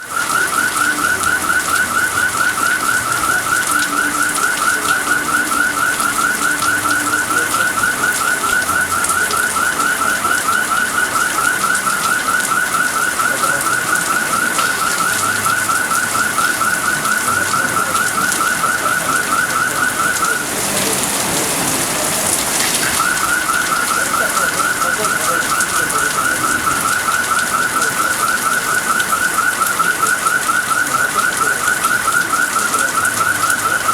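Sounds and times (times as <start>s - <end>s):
rain hissing: 0.0s - 33.9s.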